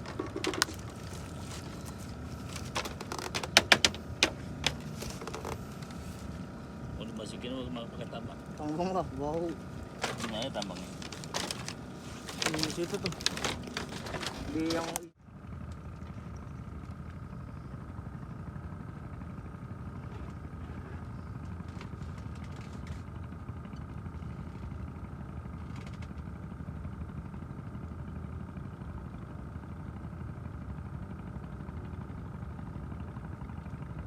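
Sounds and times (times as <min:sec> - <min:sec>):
small engine idling: 0:00.0 - 0:34.0.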